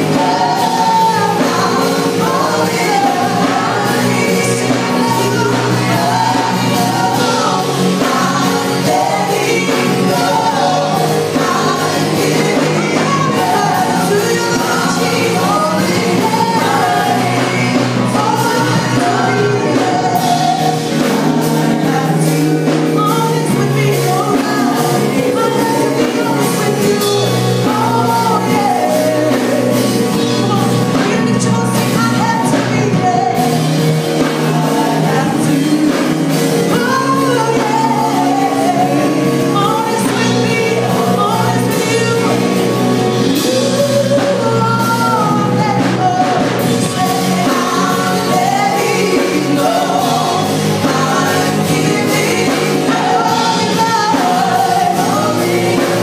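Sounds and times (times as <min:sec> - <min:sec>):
electric guitars: 0:00.0 - 0:56.0
keyboard: 0:00.0 - 0:56.0
women singing: 0:00.0 - 0:56.0.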